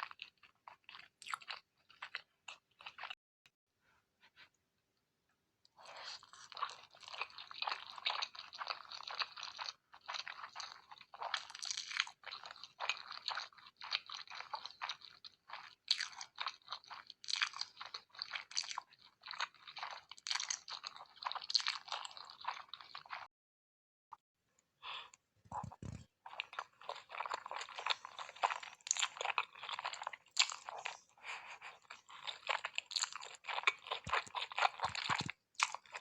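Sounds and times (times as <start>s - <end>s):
person chewing crunchy food: 0.0s - 3.2s, 5.8s - 23.3s, 24.9s - 36.0s.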